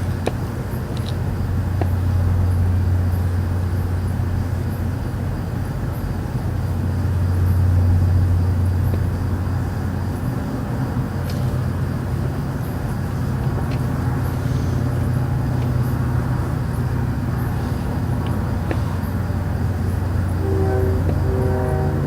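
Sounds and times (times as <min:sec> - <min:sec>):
low droning hum: 0:00.0 - 0:22.0
low rumbling noise: 0:00.0 - 0:22.0.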